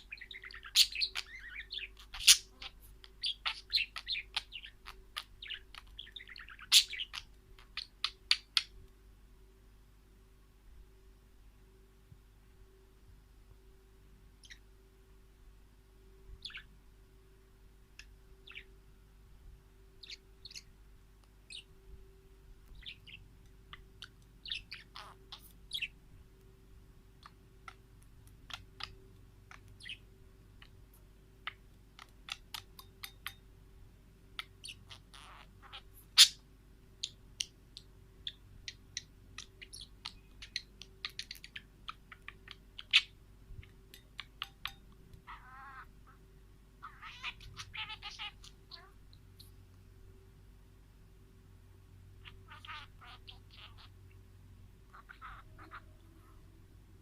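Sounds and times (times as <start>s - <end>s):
wild birds chirping: 0.0s - 8.8s, 13.6s - 15.2s, 16.0s - 19.1s, 19.7s - 26.0s, 27.2s - 33.4s, 34.2s - 50.4s, 51.8s - 57.0s
faint steady hum: 0.0s - 57.0s.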